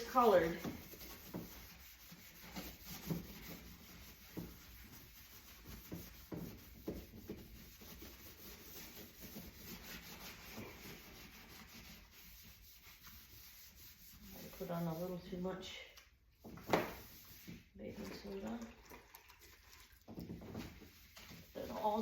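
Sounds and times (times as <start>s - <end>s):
faint scrubbing strokes: 0.0s - 15.6s, 16.7s - 18.4s, 20.5s - 22.0s.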